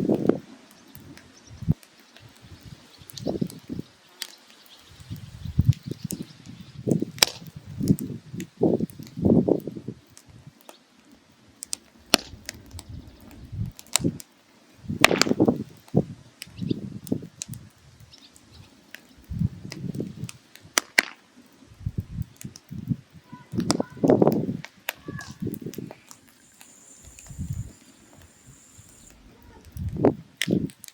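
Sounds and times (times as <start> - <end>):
firewood crackling and popping: 0.0 - 30.9
low rushing of fire: 0.0 - 30.9.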